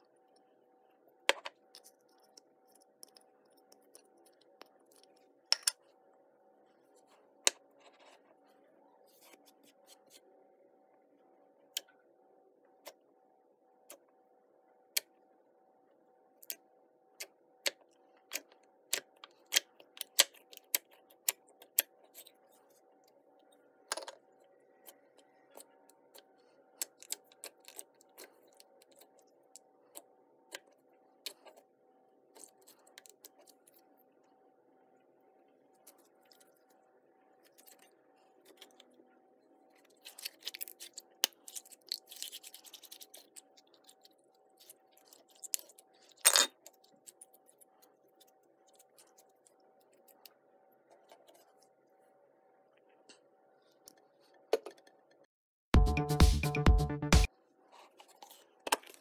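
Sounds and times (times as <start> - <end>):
faint steady hum: 0.0 - 55.3.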